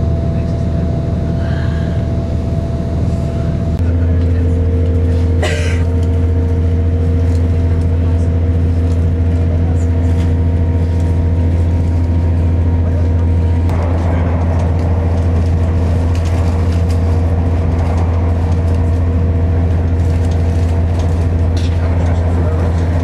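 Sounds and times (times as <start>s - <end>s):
train engine droning: 0.0s - 23.0s.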